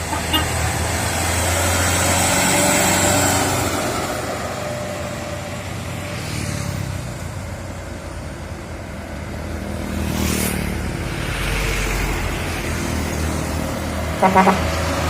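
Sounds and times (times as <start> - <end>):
diesel truck engines under load: 0.0 - 9.8, 10.8 - 15.0.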